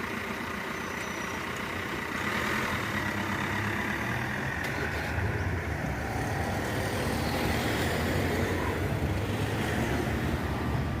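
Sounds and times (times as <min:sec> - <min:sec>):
tyre and traffic noise: 0:00.0 - 0:11.0
vehicle engine running: 0:00.0 - 0:11.0.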